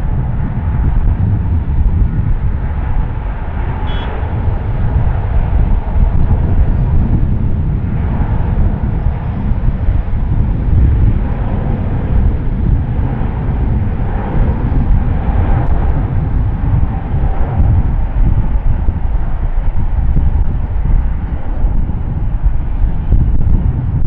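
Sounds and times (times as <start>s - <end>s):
faint engine whine: 0.0s - 24.0s
jet engines rumbling: 0.0s - 24.0s.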